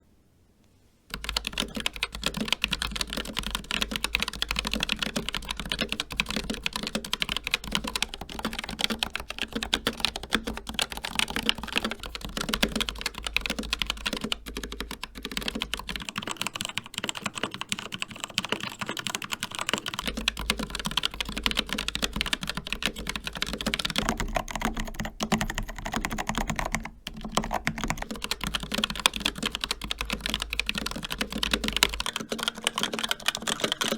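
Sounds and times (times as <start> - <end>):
fast typing on mechanical keyboard: 1.1 - 33.9.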